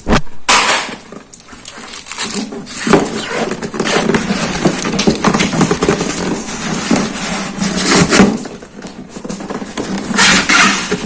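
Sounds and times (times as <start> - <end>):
scraping cardboard and styrofoam: 0.0 - 11.0.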